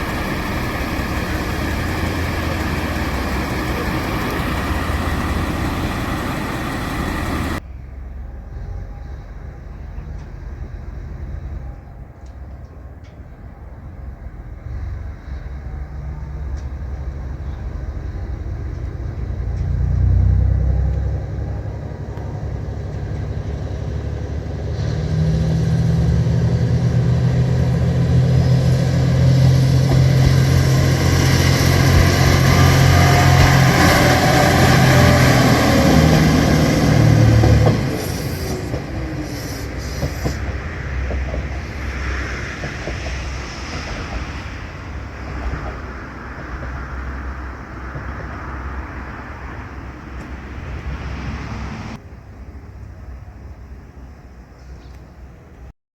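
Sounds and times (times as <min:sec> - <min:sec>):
diesel engine drone: 0:00.0 - 0:11.8, 0:14.4 - 0:54.4
train wheels rumbling on rails: 0:00.0 - 0:52.0.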